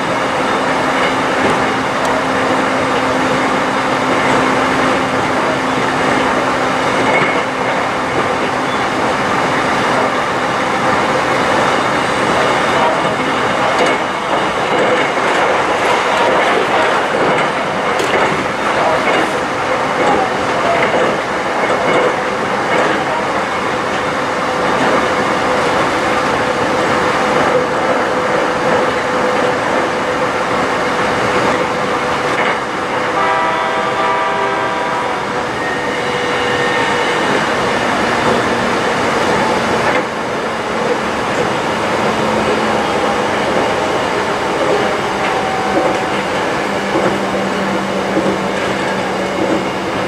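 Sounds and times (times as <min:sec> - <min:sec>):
train rolling on rails: 0:00.0 - 0:50.0.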